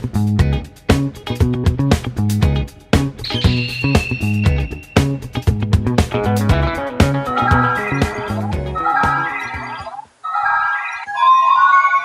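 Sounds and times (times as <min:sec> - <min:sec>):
music with bass and beat: 0:00.0 - 0:09.8.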